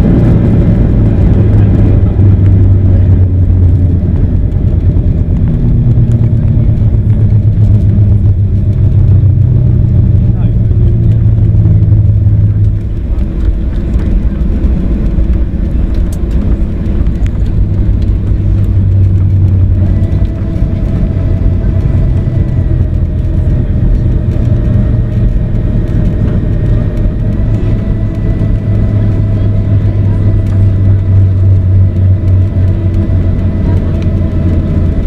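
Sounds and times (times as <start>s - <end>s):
jet engine cabin rumble: 0.0s - 35.0s
thin steady whine: 0.0s - 35.0s.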